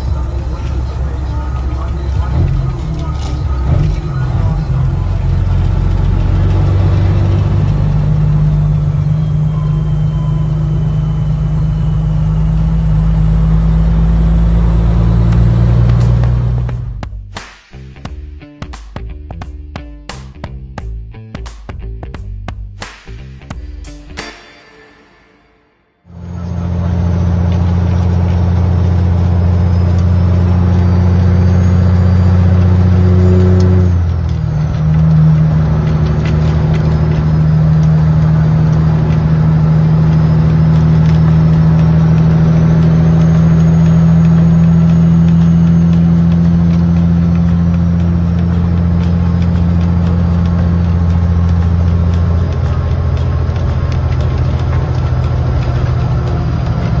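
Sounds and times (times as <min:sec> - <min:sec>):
truck diesel engine droning: 0:00.0 - 0:17.2, 0:26.1 - 0:57.0.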